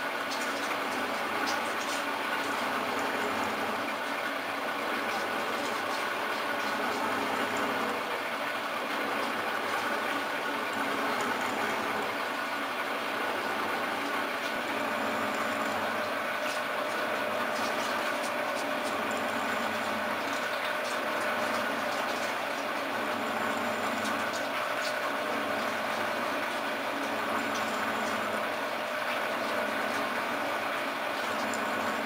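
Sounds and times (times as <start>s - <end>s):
metal shaper running: 0.0s - 32.0s.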